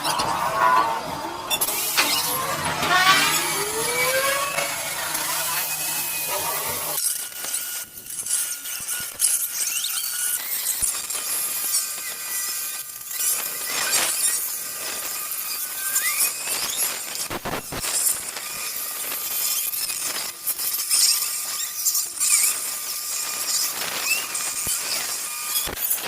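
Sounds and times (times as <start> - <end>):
lathe scraping with squeals: 0.0 - 16.9, 18.0 - 26.0.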